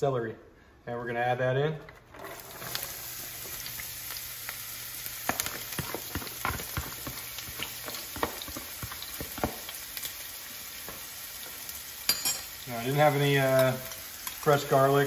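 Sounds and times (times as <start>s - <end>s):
vegetables sizzling in oil: 2.2s - 15.0s.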